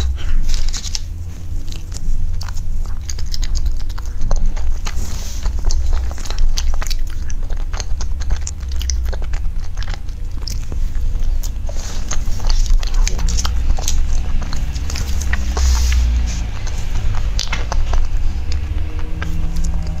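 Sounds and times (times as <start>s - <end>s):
chewing with wet smacks: 0.0s - 20.0s
low hum: 0.0s - 20.0s.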